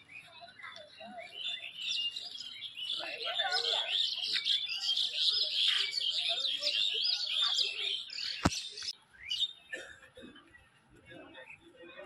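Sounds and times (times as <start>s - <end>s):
small birds chirping chorus: 0.0s - 12.0s.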